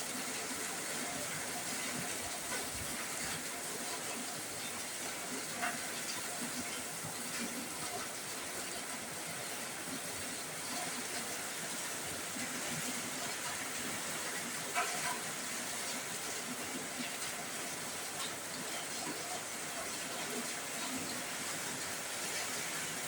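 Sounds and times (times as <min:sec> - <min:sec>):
heavy rain on a roof: 0:00.0 - 0:23.0.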